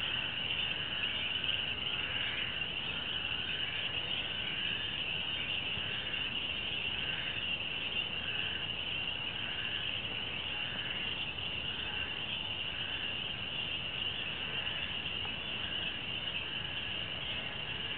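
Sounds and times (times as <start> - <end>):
insects high trill: 0.0 - 17.9
pulsing insect call: 0.0 - 17.9.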